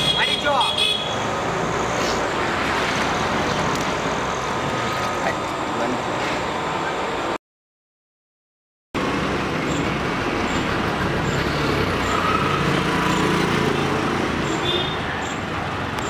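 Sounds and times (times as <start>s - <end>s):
street traffic noise: 0.0s - 7.4s, 9.0s - 16.0s.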